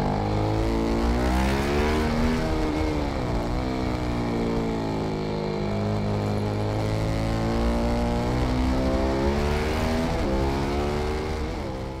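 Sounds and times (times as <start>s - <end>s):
motorcycle engine revving hard: 0.0s - 12.0s.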